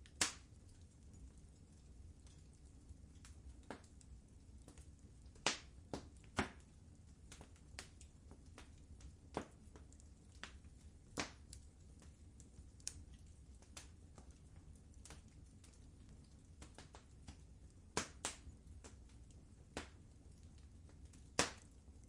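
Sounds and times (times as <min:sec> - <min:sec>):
fire crackling in a fireplace: 0:00.0 - 0:22.0
low steady rumble: 0:00.0 - 0:22.0.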